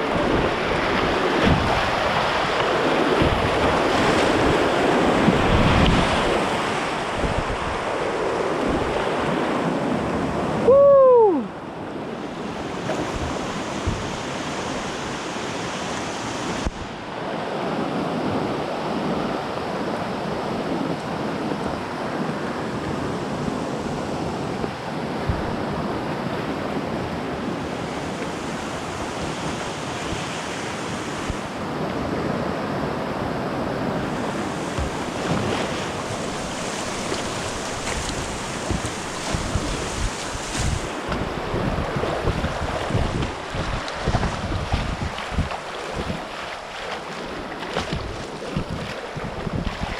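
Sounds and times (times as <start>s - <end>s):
wind buffeting microphone: 0.0s - 17.0s, 17.6s - 49.9s
whitewater rushing: 0.0s - 20.6s, 21.2s - 49.9s.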